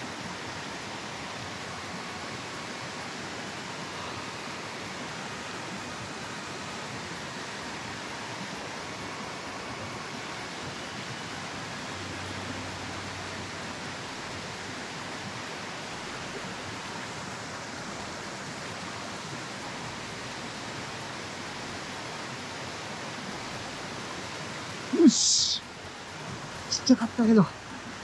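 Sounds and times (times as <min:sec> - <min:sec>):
small waterfall pouring into a pool: 0:00.0 - 0:26.7.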